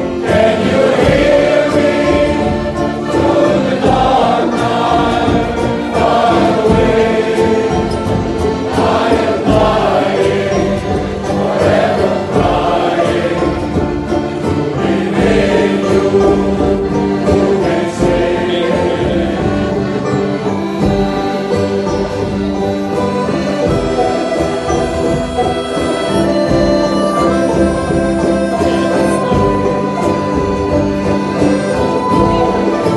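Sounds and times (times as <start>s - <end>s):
accordions: 0.0s - 32.9s
box bass: 0.0s - 32.9s
men's choir singing: 0.0s - 32.9s.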